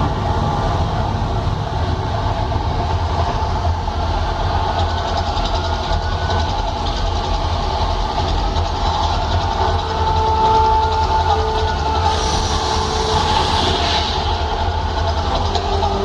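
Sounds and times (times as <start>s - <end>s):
low eruption rumble: 0.0s - 9.8s, 11.7s - 16.0s.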